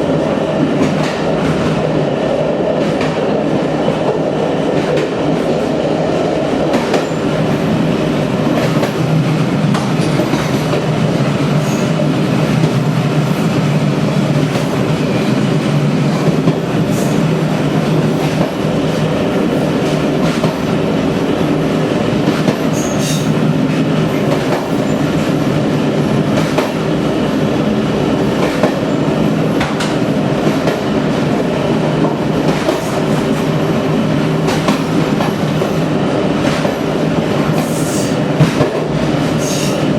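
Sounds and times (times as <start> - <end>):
train rumble: 0.0 - 39.9.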